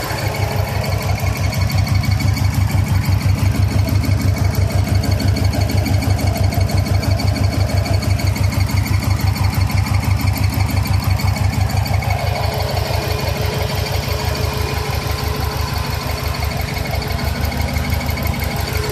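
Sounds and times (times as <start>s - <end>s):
car engine idling with ticking: 0.0s - 18.9s.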